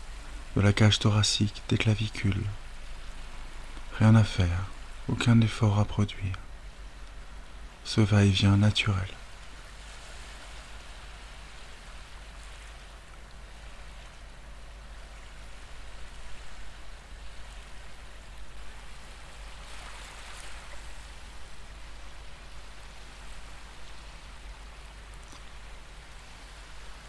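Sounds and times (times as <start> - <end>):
ocean waves washing ashore: 0.0 - 27.0.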